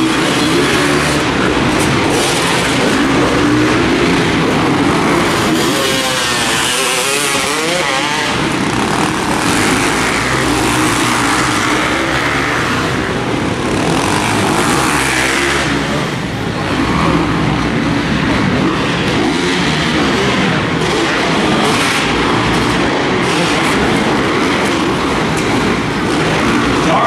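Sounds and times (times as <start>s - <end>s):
motocross bikes revving: 0.0s - 27.0s.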